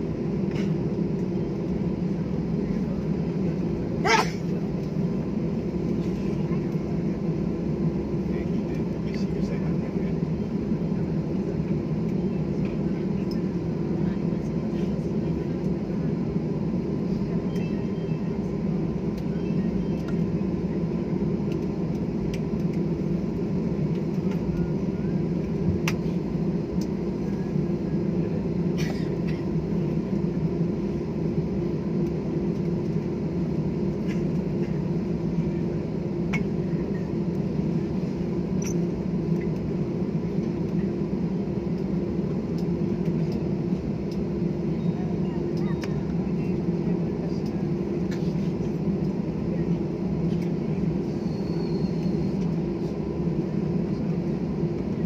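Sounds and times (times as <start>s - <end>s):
airliner cabin hum: 0.0s - 55.0s.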